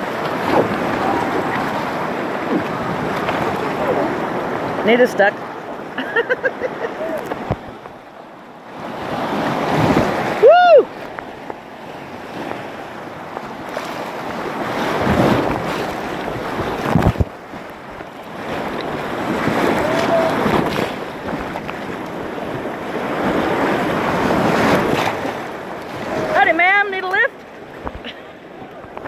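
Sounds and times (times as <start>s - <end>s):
wave slapping over camera: 0.0s - 6.0s, 6.7s - 8.1s, 8.8s - 29.0s
whitewater rapids rushing: 0.0s - 29.0s.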